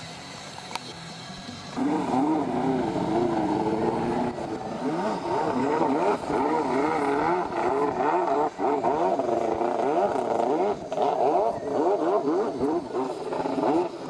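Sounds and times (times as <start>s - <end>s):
jet ski engine revving: 0.0s - 14.0s.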